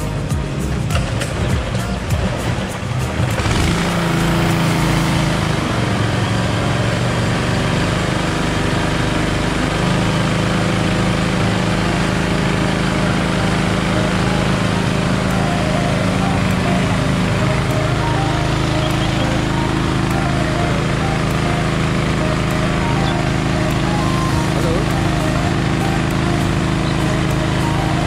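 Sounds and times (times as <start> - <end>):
pump motor humming: 0.0 - 28.0.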